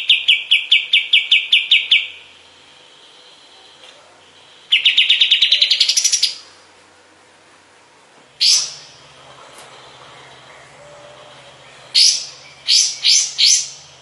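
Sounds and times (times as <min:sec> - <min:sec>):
songbird trill: 0:00.0 - 0:06.5, 0:08.4 - 0:14.0.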